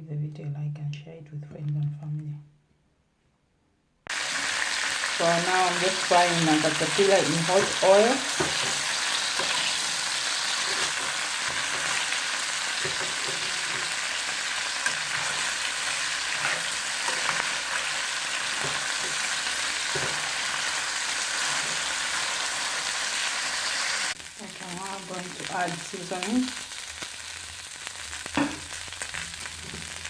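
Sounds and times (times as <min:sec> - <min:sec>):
caterpillars sizzling in hot oil: 0:04.1 - 0:30.0.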